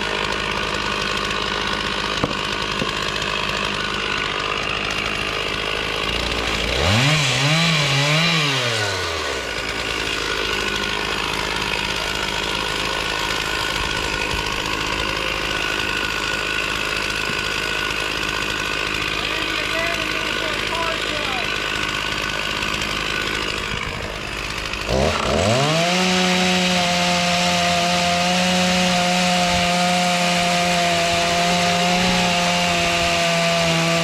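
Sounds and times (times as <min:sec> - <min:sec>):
chainsaw engine revving: 0:00.0 - 0:34.0.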